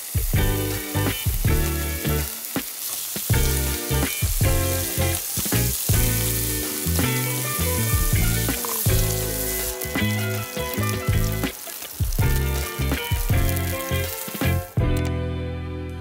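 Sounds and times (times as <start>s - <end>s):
beef sizzling on a grill plate: 0.0s - 14.8s
background music with struck notes: 0.2s - 16.0s.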